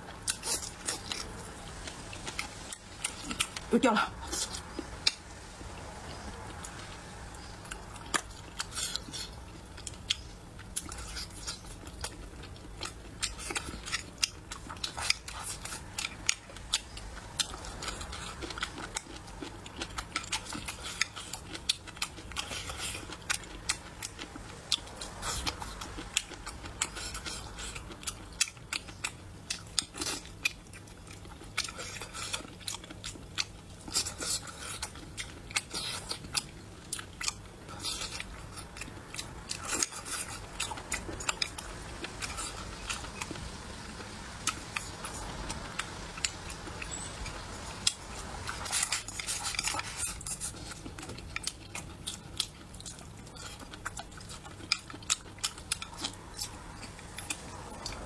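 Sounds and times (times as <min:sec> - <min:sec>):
chewing and mouth smacks: 0:06.0 - 0:58.0.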